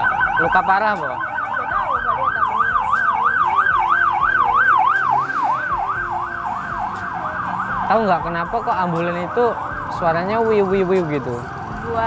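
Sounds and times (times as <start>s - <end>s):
ambulance siren wailing: 0.0s - 12.0s.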